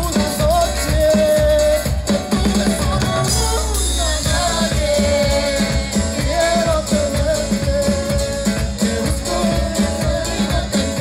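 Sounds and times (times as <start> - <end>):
acoustic guitar: 0.0 - 11.0
person singing: 0.0 - 11.0
steady drum beat: 0.0 - 11.0.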